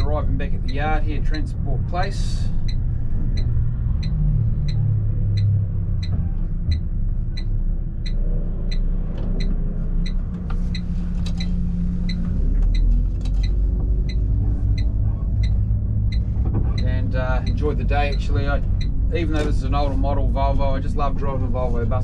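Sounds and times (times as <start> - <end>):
turn indicator ticking: 0.0 - 19.8
diesel engine running: 0.0 - 22.0.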